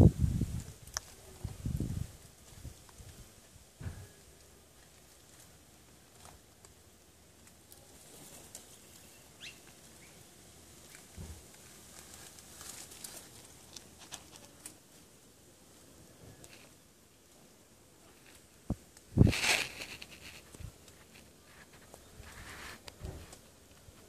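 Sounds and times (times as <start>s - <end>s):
quiet garden background: 0.0s - 24.0s.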